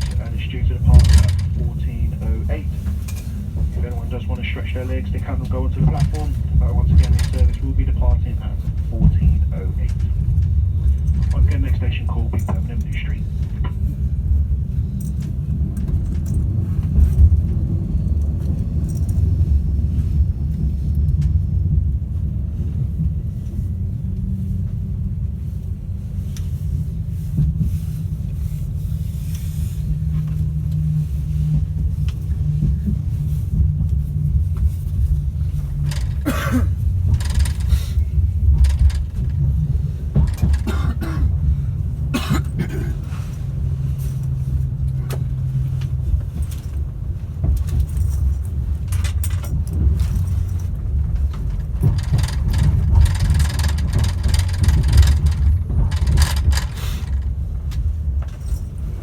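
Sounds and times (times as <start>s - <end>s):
short noises inside carriage: 0.0s - 59.0s
train equipment humming: 0.0s - 59.0s.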